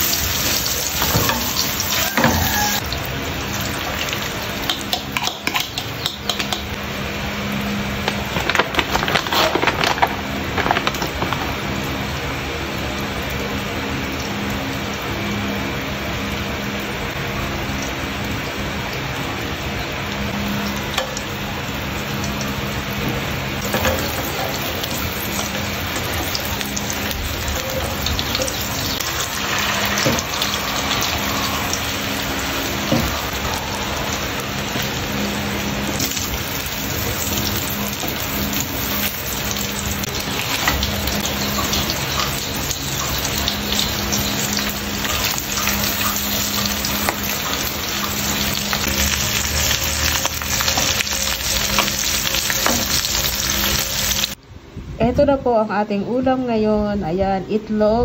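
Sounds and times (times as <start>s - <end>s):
food sizzling in oil: 0.0s - 54.4s.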